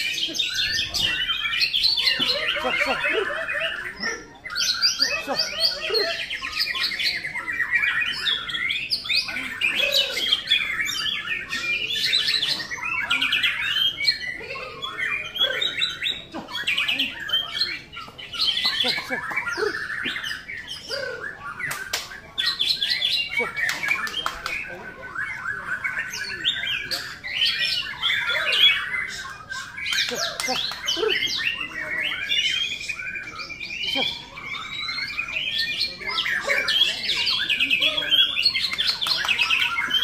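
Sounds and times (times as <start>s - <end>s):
birds singing whistles and trills: 0.0s - 40.0s.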